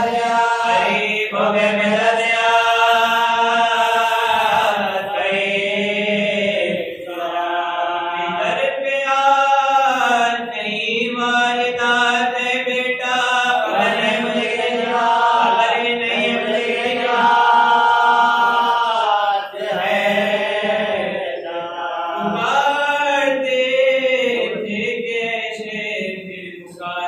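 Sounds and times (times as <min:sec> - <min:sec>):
man chanting into a microphone: 0:00.0 - 0:27.0.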